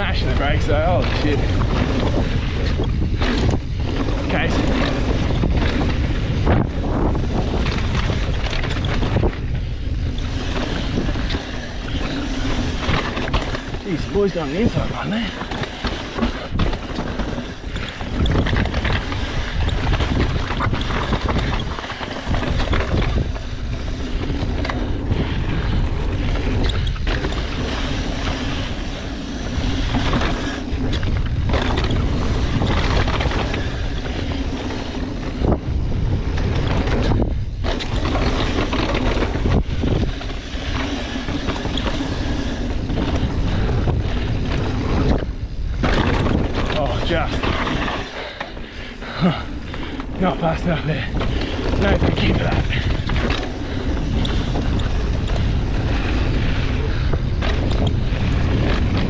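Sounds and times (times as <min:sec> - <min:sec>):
bike rattling over bumps: 0:00.0 - 0:59.0
tyres running over dirt trail: 0:00.0 - 0:59.0
wind buffeting microphone: 0:00.0 - 0:59.0.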